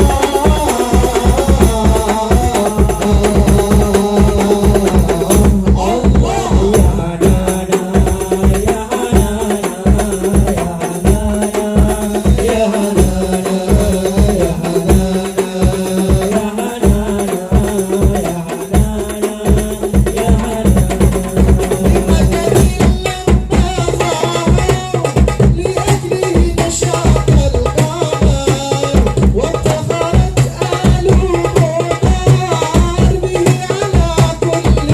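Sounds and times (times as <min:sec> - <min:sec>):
deep bass drum: 0:00.0 - 0:34.9
hand drums playing driving rhythm: 0:00.0 - 0:34.9.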